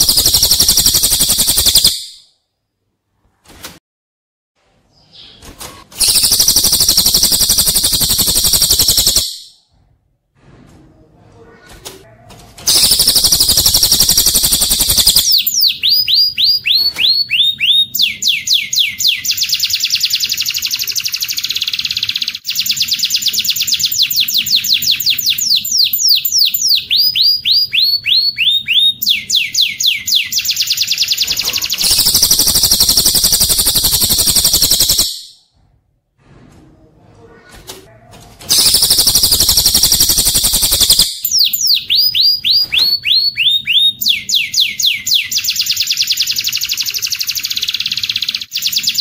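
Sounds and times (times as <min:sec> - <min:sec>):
recorded birdsong trills and whistles: 0:00.0 - 0:02.3, 0:04.9 - 0:09.6, 0:12.7 - 0:35.5, 0:38.5 - 0:49.0.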